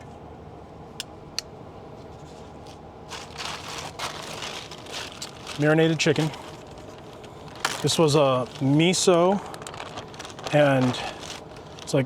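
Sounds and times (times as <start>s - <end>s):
packaging crinkling and rustling: 2.2s - 12.0s.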